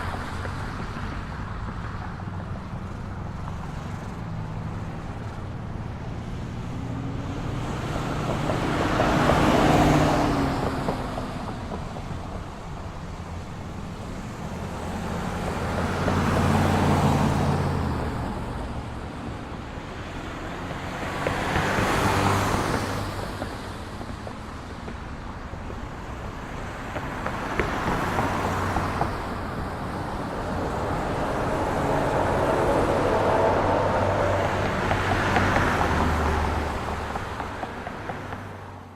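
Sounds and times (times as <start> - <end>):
traffic hum: 0.0 - 38.9
vehicles passing: 0.0 - 38.9.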